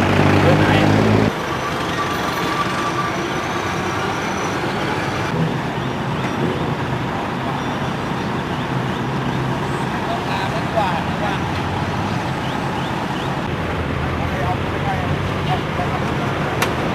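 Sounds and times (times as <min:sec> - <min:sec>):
road and traffic rumble: 0:00.0 - 0:16.9.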